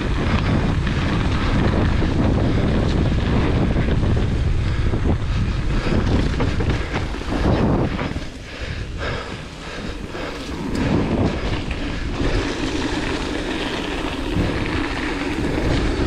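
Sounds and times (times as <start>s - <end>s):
bike clicks and rattles: 0.0s - 16.0s
bike tyres rolling over dirt: 0.0s - 16.0s
wind buffeting microphone: 0.0s - 16.0s.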